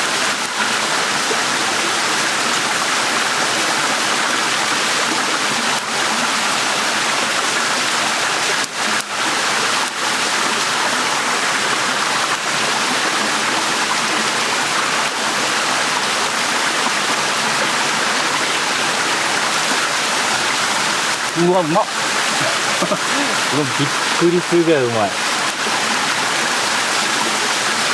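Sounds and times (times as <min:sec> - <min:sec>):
stream running over rocks: 0:00.0 - 0:27.9.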